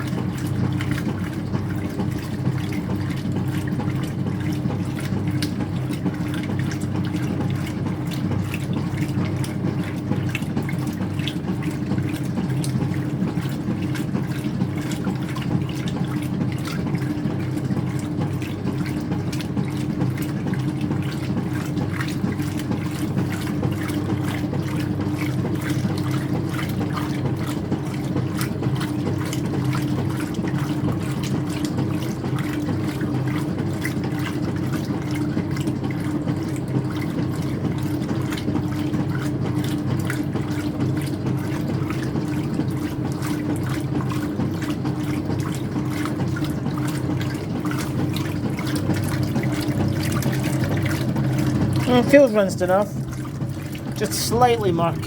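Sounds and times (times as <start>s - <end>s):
washing machine hum: 0.0s - 55.0s
water splashing in washer tub: 0.0s - 55.0s.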